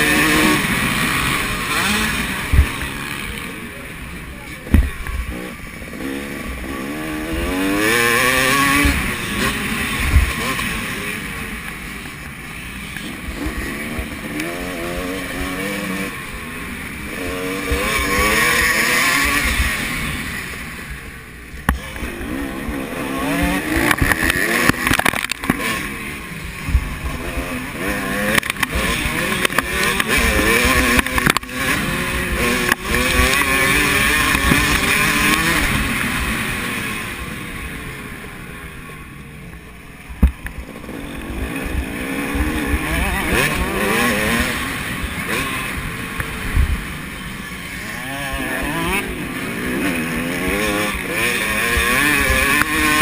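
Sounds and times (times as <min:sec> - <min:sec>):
motocross bikes racing past: 0:00.0 - 0:53.0.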